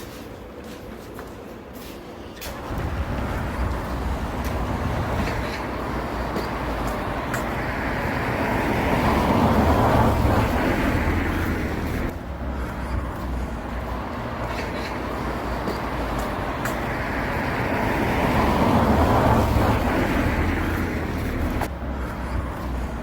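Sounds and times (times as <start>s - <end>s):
road vehicle rumble: 0.0s - 23.0s.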